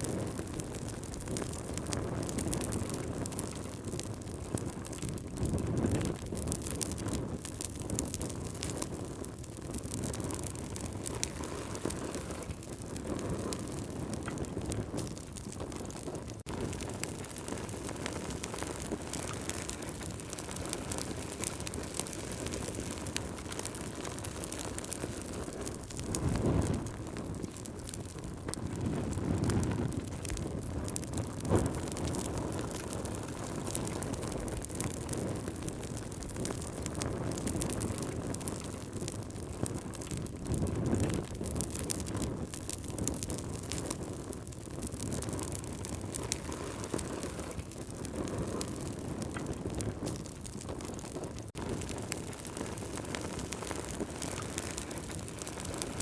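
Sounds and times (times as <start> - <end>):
campfire hissing and crackling: 0.0 - 56.0
fire whooshing: 0.0 - 56.0.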